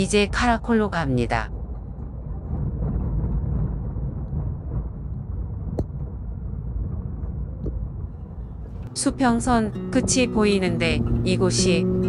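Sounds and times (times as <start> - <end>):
road rumble inside moving car: 1.4 - 12.0.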